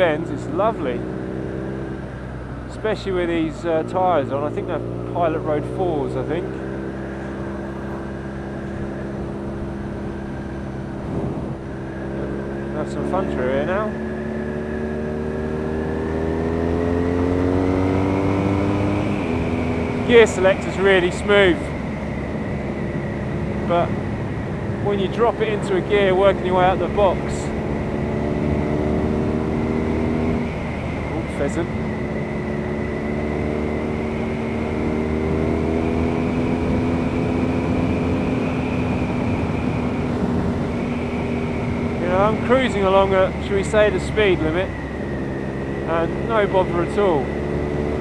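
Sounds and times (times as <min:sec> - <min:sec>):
low wind rumble: 0:00.0 - 0:48.0
motorcycle engine accelerating: 0:00.0 - 0:48.0.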